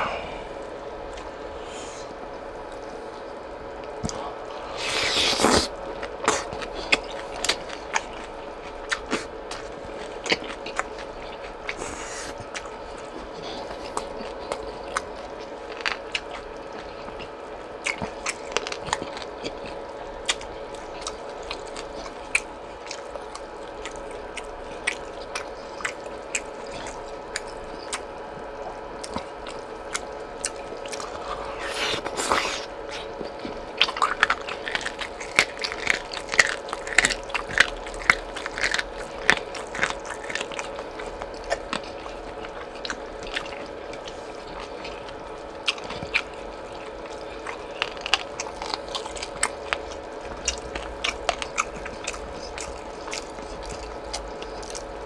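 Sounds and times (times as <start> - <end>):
faint hum: 0.0 - 55.0
wet chewing: 0.0 - 55.0.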